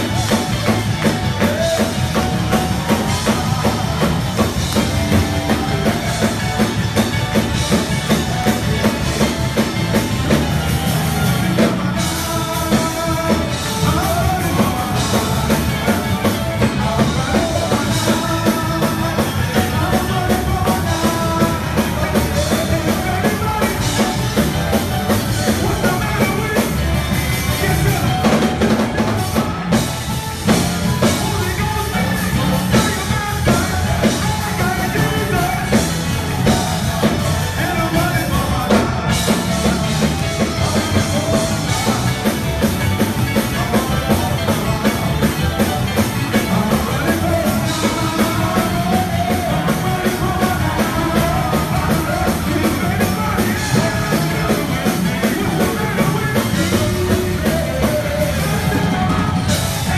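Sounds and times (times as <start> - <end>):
people singing into microphones: 0.0 - 10.4, 11.1 - 59.9
drum kit beat: 0.0 - 59.9
live church praise band: 0.0 - 59.9.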